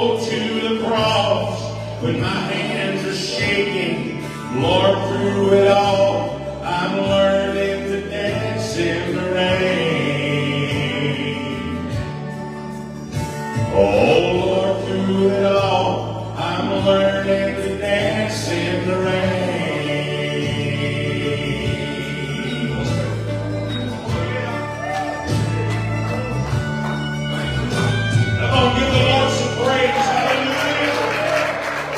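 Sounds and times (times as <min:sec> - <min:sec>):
voices singing gospel music: 0:00.0 - 0:12.6, 0:13.2 - 0:31.9.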